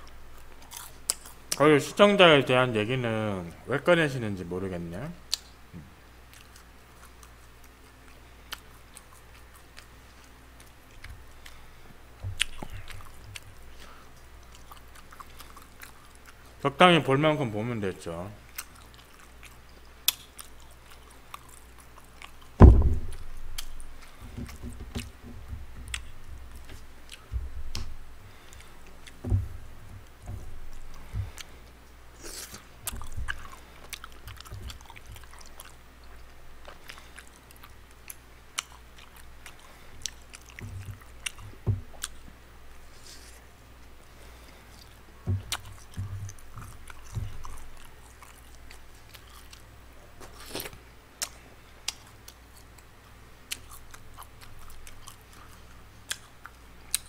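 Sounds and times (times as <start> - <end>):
chewing and biting food: 0.0 - 1.6, 6.3 - 16.6, 18.4 - 42.3, 44.2 - 57.0.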